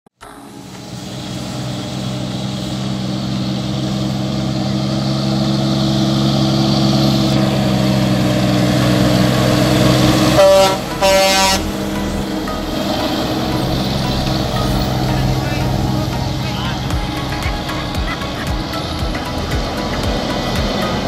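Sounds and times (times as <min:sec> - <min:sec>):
truck horn blasts: 0:00.3 - 0:21.0
truck diesel engine running: 0:00.4 - 0:21.0.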